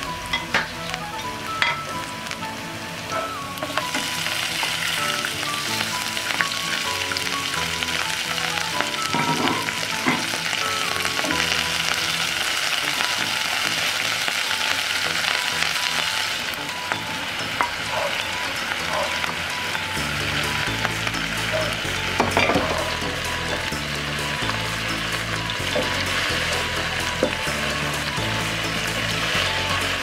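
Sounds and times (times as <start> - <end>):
frogs sizzling in oil: 0.0 - 30.0.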